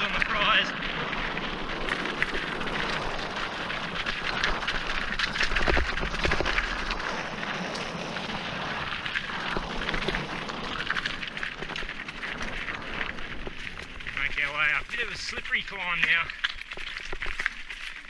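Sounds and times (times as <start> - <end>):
bike rattling: 0.0 - 18.0
tyres crunching on stones: 0.0 - 18.0
wind rumbling on microphone: 0.0 - 18.0.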